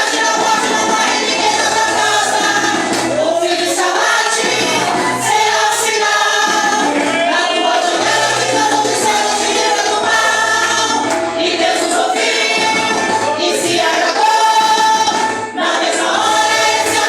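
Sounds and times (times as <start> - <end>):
steady bass line: 0.0 - 15.6
backing track: 0.0 - 17.0
women singing a gospel hymn: 0.0 - 17.0.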